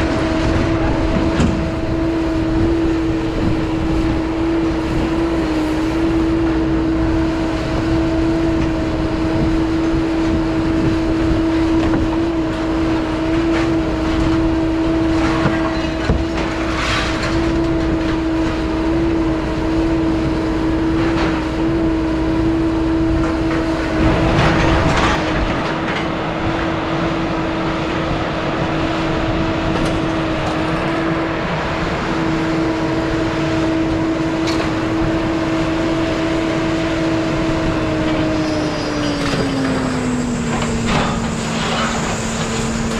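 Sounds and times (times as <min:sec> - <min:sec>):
noisy rumble: 0:00.0 - 0:42.9
steady machine hum: 0:00.0 - 0:42.9.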